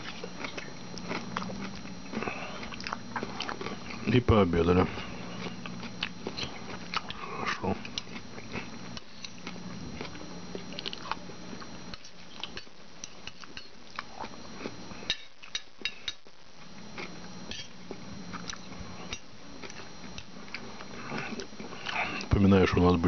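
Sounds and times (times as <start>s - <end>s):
person chewing: 0.0s - 22.3s.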